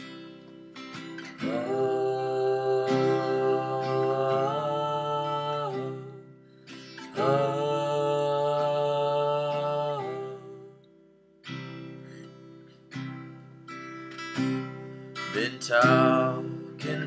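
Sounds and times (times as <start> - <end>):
acoustic guitar chords strummed: 0.0 - 10.7, 11.4 - 17.0.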